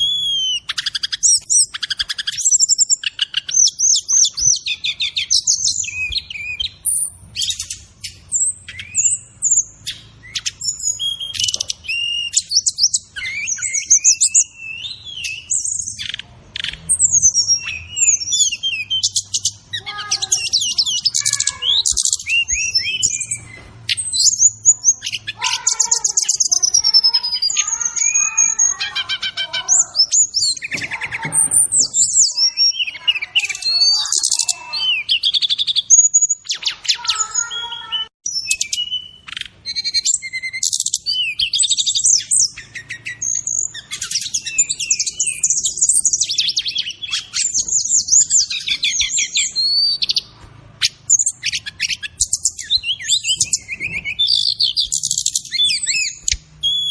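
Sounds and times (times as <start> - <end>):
bird song chirps and trills: 0.0 - 56.9.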